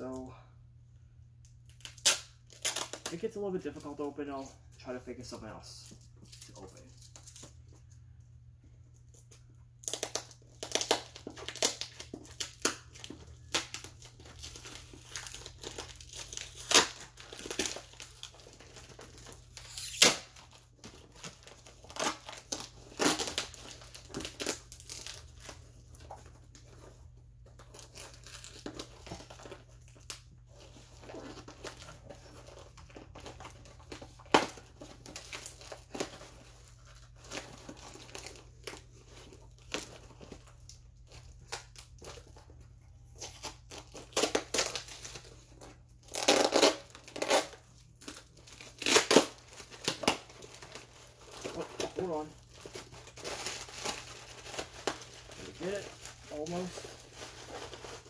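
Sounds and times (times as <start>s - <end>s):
paper package ripping and crinkling: 1.6s - 7.6s, 9.1s - 58.0s.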